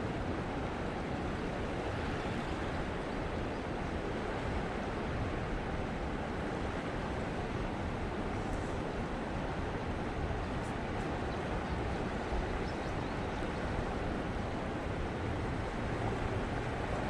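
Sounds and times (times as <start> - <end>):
fast-flowing river water: 0.0 - 17.0.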